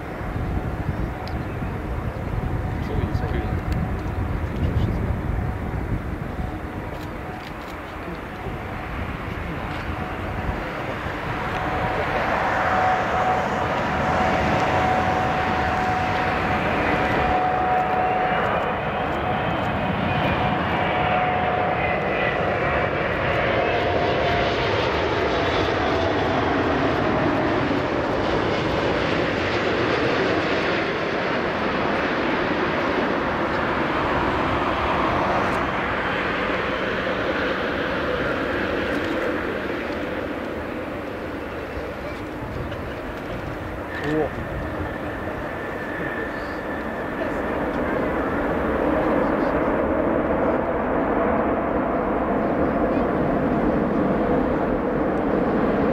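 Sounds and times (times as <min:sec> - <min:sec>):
jet engine rumble: 0:00.0 - 0:55.9
jet engine whine: 0:00.0 - 0:55.9.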